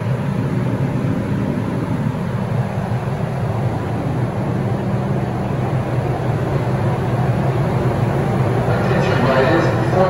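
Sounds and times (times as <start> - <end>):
subway station rumble: 0.0 - 10.0.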